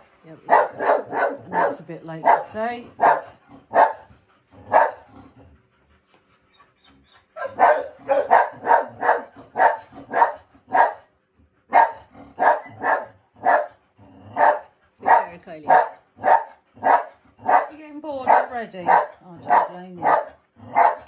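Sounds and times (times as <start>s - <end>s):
dog barking: 0.5s - 4.1s, 4.7s - 5.1s, 7.4s - 11.1s, 11.7s - 21.0s.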